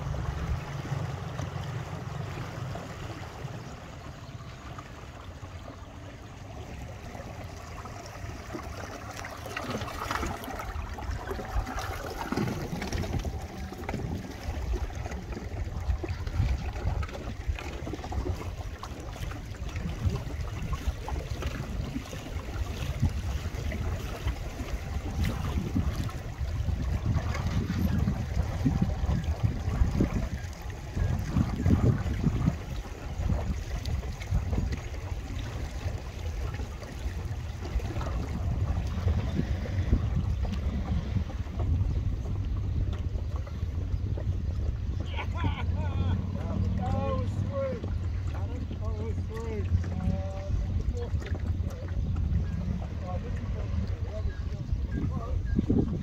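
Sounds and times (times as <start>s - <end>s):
small waves lapping: 0.0s - 56.0s
wind buffeting microphone: 9.6s - 56.0s.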